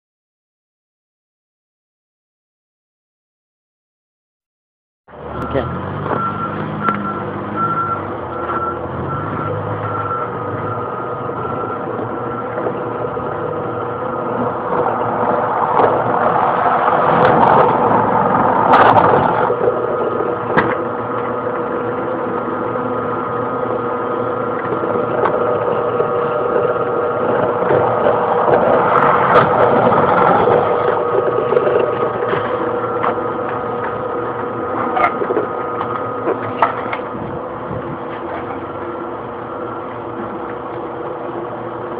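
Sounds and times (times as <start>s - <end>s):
drill press motor whine: 5.2s - 41.9s.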